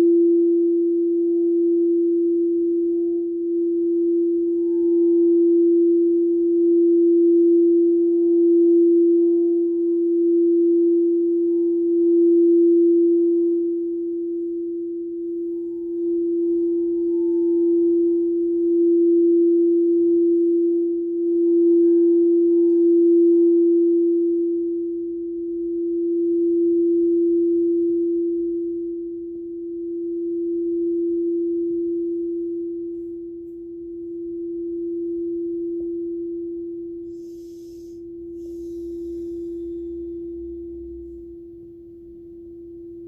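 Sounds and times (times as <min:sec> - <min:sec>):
singing bowl tone: 0:00.0 - 0:43.0.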